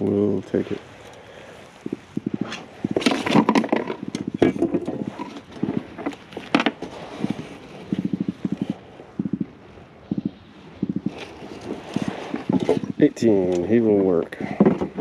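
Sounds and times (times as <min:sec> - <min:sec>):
drum fish drumming pulses: 0:01.3 - 0:13.4.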